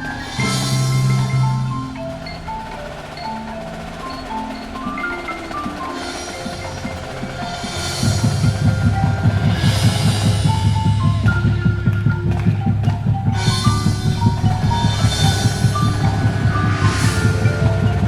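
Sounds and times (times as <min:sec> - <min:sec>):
bass and snare drum beat: 0:00.0 - 0:18.0
xylophone melody: 0:00.0 - 0:18.0.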